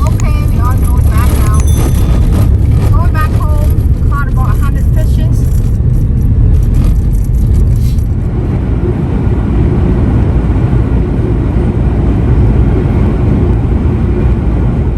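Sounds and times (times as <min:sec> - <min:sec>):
loud low rumbling: 0:00.0 - 0:14.9.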